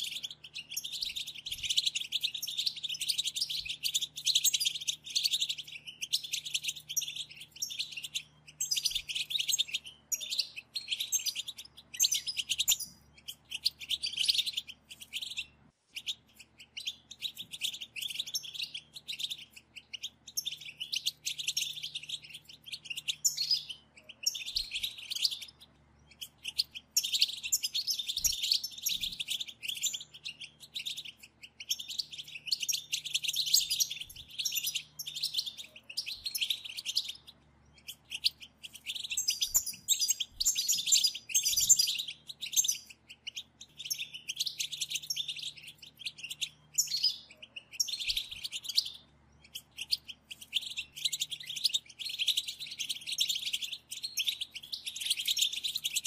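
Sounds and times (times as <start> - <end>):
finches twittering chatter: 0.0 - 56.0.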